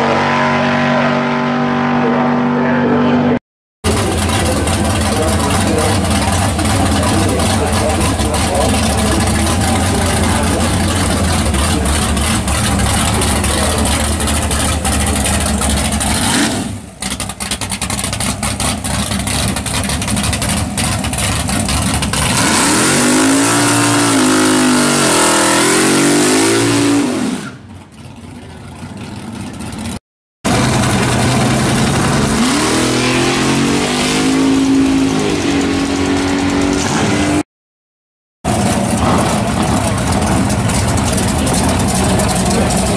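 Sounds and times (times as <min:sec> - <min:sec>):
car engine revving: 0:00.0 - 0:27.6, 0:28.2 - 0:37.4, 0:38.4 - 0:42.9.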